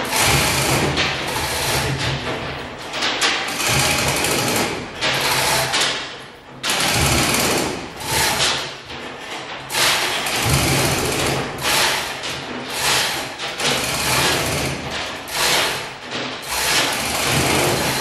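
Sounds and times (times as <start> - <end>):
chain hoists rattling: 0.0 - 18.0.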